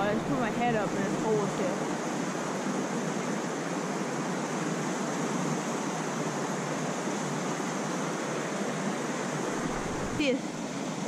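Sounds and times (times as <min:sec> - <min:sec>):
creek water flowing over rocks: 0:00.0 - 0:03.5, 0:04.1 - 0:11.0.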